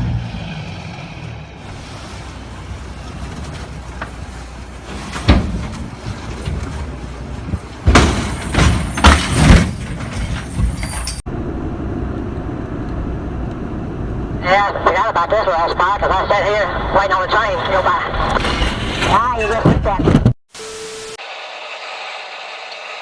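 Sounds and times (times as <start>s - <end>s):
vehicle engine rumbling: 0.0s - 20.4s.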